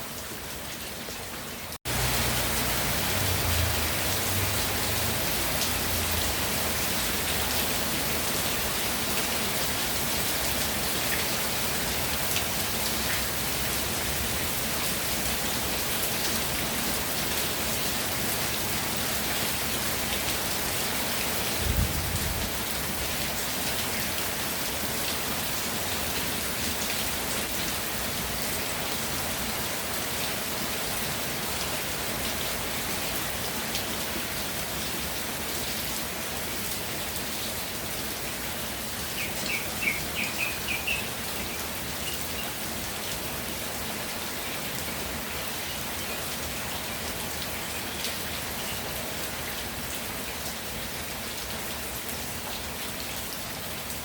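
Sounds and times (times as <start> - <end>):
raindrops pattering on surfaces: 0.3 - 54.0.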